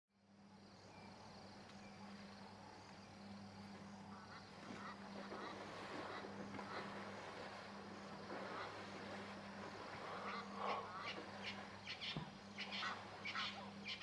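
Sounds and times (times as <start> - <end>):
steady low hum: 0.2 - 14.0.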